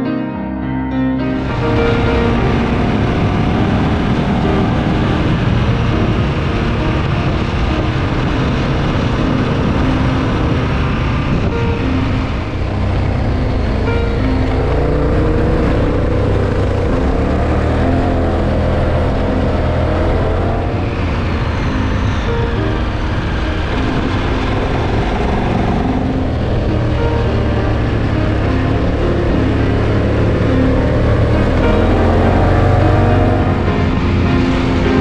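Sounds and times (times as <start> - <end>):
wind noise: 1.3 - 35.0
motorcycle engine running: 1.4 - 35.0.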